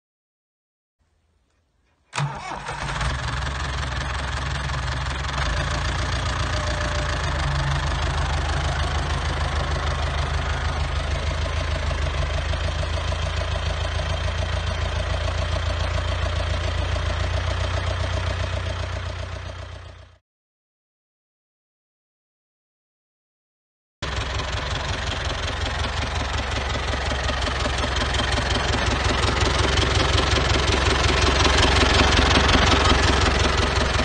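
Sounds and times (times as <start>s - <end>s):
tractor diesel engine running: 2.2s - 20.2s, 24.0s - 34.0s.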